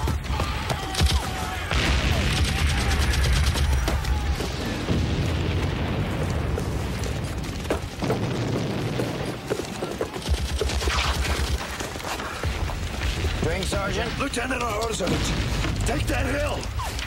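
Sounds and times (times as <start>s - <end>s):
shell explosions booming: 0.0s - 17.0s.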